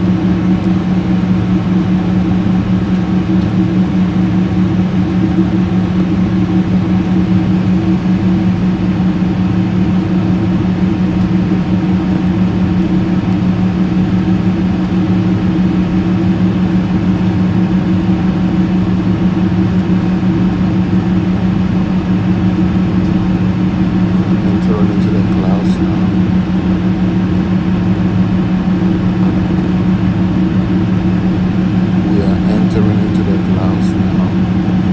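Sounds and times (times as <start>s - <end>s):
jet engines droning in cabin: 0.0s - 34.9s.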